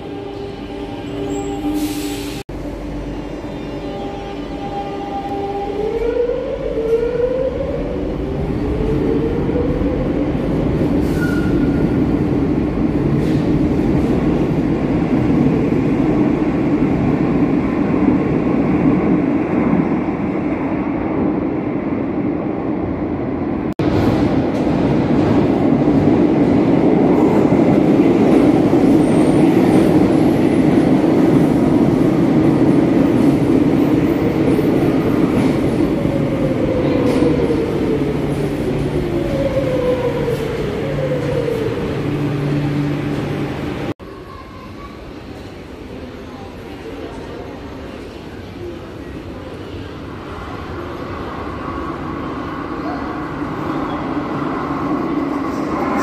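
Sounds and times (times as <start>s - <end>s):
train rolling rumble in tunnel: 0.0s - 56.0s
train running along platform: 0.0s - 56.0s.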